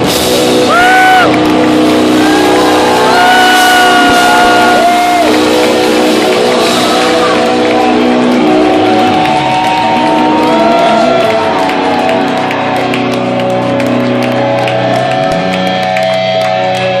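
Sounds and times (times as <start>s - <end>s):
distorted electric guitars: 0.0s - 17.0s
drums: 0.0s - 17.0s.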